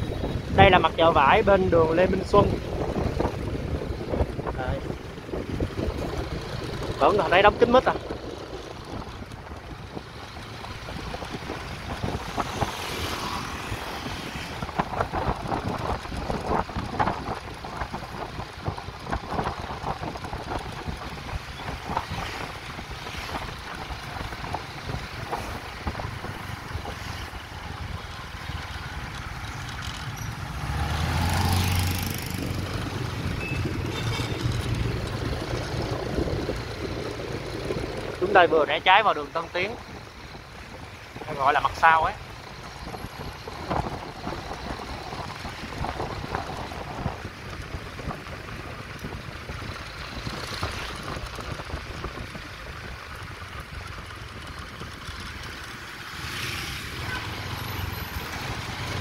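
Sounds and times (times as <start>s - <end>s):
street traffic: 0.0s - 59.0s
wind rumbling on microphone: 0.0s - 59.0s.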